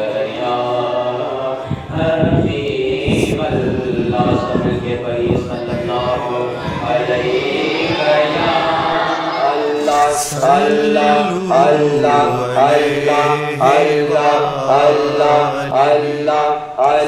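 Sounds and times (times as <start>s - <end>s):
person chanting a phrase: 2.8s - 17.0s.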